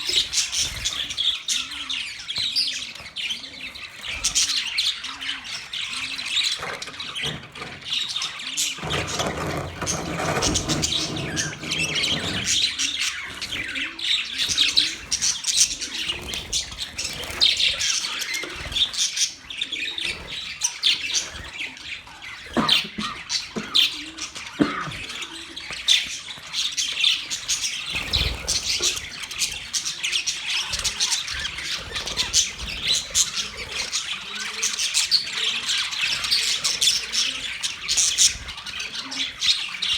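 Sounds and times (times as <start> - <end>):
budgies chattering and squawking: 0.0 - 39.9.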